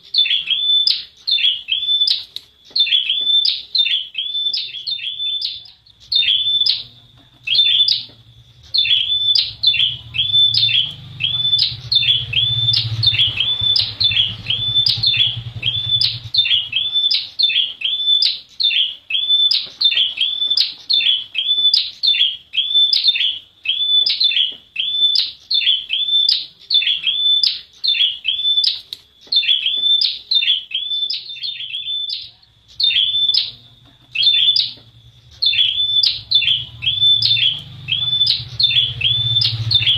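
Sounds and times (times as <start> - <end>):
small bird sharp high chirps: 0.0 - 39.9.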